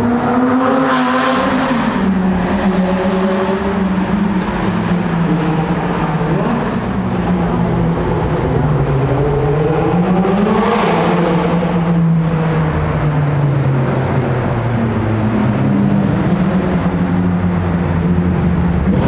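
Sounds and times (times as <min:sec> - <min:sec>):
car engines echoing in tunnel: 0:00.0 - 0:19.0.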